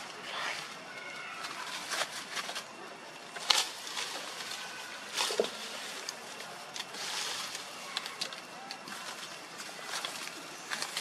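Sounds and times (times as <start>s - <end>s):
dry leaves rustling and crackling: 0.0s - 11.0s
steady background hiss: 0.0s - 11.0s.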